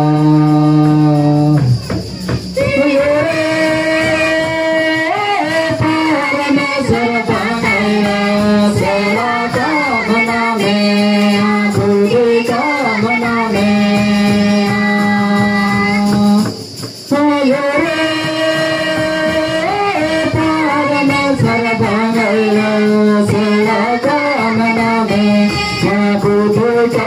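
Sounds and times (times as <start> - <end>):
choir singing through loudspeakers: 0.0 - 16.5, 17.1 - 27.0.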